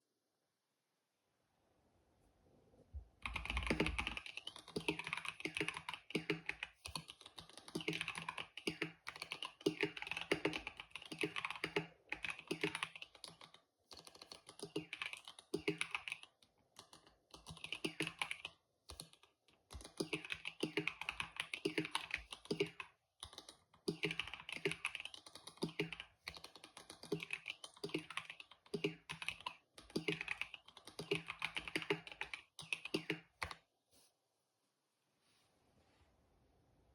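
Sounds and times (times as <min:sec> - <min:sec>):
mechanical keyboard typing: 0:03.2 - 0:33.6.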